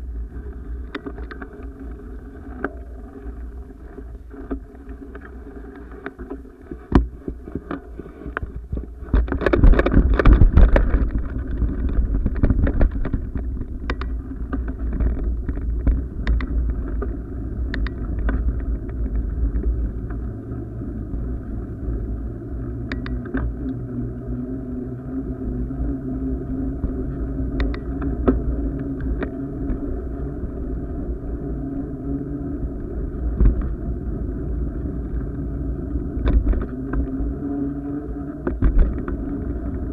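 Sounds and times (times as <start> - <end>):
rolling rumble: 0.0 - 39.9
wind rushing over microphone: 6.9 - 39.9.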